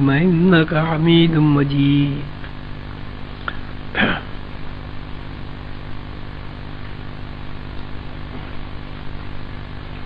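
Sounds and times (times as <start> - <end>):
mains hum and hiss: 0.0 - 10.0.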